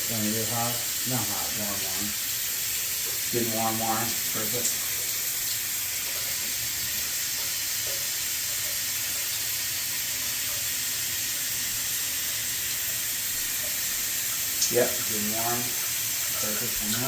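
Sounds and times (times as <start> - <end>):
shower water running: 0.0 - 17.0.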